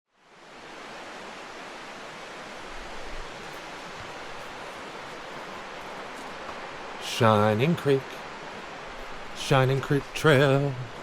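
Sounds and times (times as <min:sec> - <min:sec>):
creek rushing over rocks: 0:00.2 - 0:11.0.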